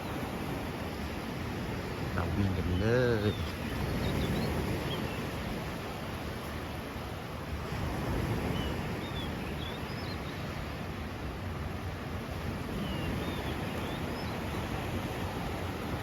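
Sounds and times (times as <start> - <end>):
sea surf: 0.0 - 16.0.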